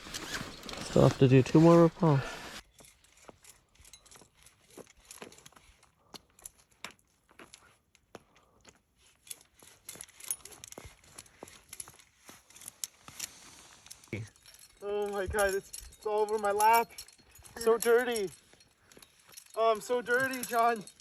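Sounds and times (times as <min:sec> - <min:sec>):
climbing gear clicks and rustling: 0:00.0 - 0:21.0.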